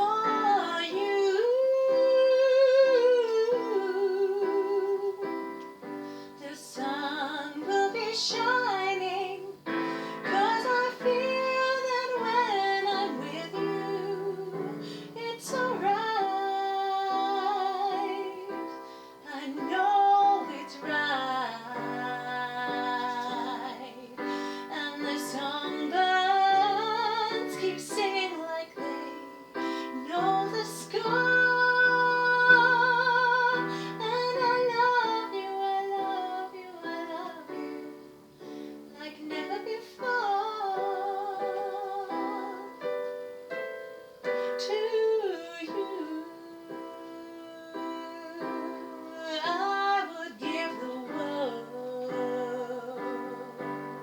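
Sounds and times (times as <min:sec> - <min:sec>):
woman singing slow ballad: 0:00.0 - 0:38.1, 0:38.9 - 0:43.1, 0:44.2 - 0:54.0
piano chords: 0:00.0 - 0:54.0.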